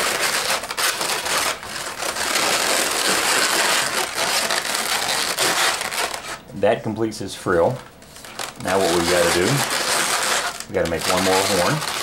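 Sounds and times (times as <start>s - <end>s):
balloons rubbing together: 0.0s - 6.4s, 7.6s - 12.0s.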